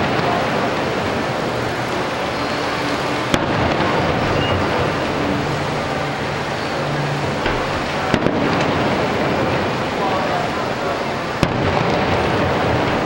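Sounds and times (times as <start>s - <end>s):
fireworks bangs: 0.0s - 13.0s
steady noisy wash: 0.0s - 13.0s.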